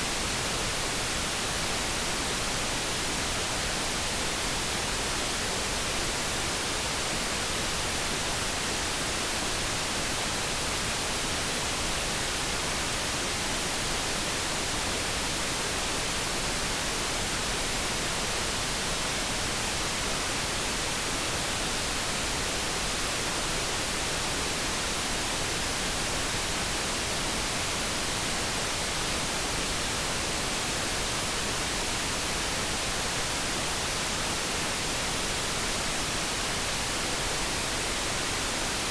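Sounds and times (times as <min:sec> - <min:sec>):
brown noise hiss: 0:00.0 - 0:38.9.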